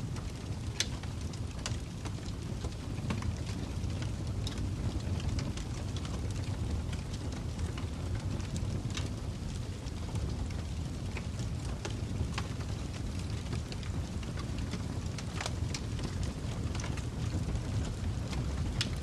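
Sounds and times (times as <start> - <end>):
fire crackling: 0.0 - 19.0
fire pops and snaps: 0.0 - 19.0.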